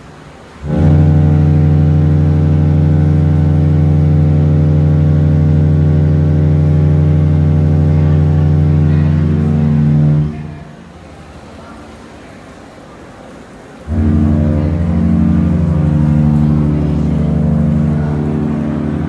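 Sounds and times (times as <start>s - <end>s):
ship horn deep blast: 0.6s - 11.1s, 13.8s - 19.0s.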